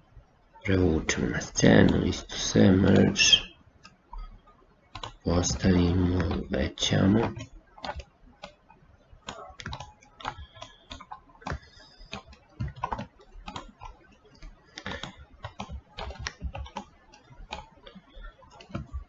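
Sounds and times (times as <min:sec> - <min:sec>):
keyboard and mouse clicks: 0:01.1 - 0:19.0.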